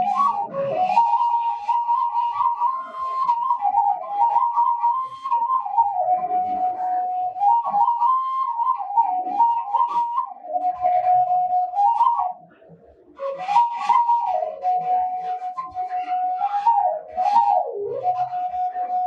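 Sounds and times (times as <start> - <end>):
breathy bamboo flute melody: 0.0 - 19.0.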